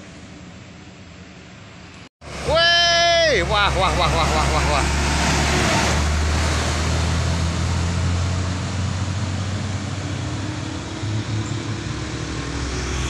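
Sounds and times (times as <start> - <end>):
heavy truck passing: 2.2 - 13.0.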